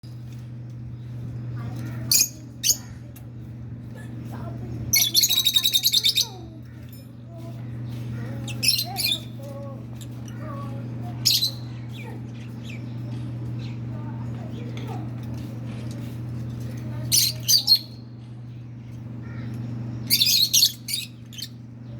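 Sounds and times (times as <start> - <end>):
birds chirping: 0.0 - 21.9
steady low hum: 0.0 - 21.9.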